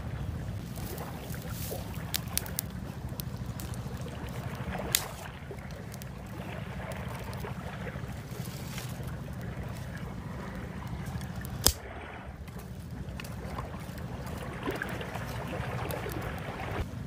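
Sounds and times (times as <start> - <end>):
fire crackling: 0.0 - 17.0
wind rumbling on microphone: 0.0 - 17.0.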